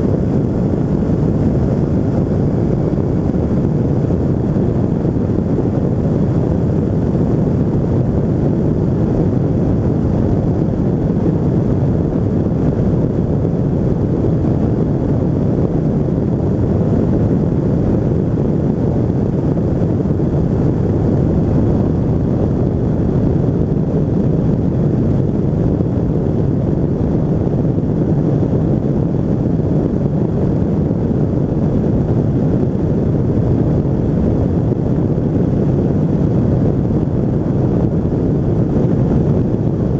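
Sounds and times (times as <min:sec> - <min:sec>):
microlight engine and propeller: 0:00.0 - 0:39.9
wind rushing over microphone: 0:00.0 - 0:39.9.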